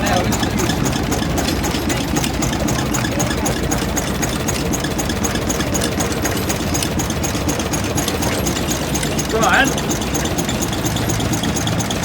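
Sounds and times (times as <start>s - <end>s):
engine chugging: 0.0s - 12.0s.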